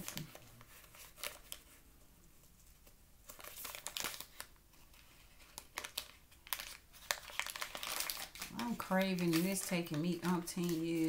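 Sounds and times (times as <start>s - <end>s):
plastic bag crinkling: 0.0s - 1.7s, 3.2s - 11.0s.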